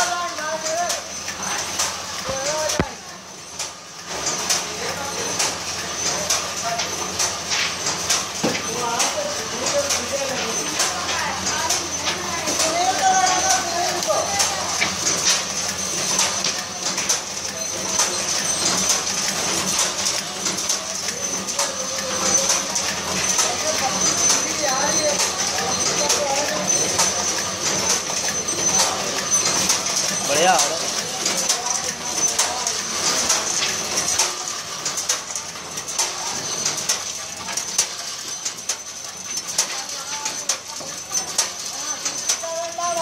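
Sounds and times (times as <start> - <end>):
high-pitched machine whine: 0.0 - 43.0
packing machine clacking: 0.0 - 43.0.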